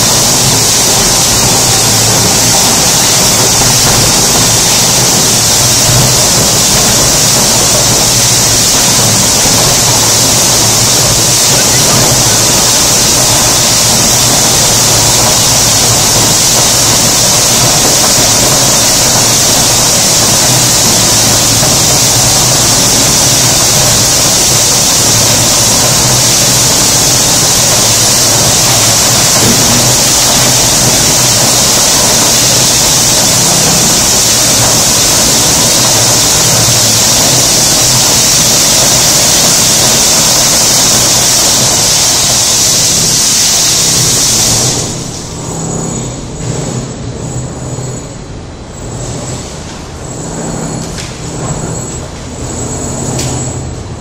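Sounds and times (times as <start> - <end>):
pump rushing air and screed: 0.0 - 47.9, 48.7 - 53.5.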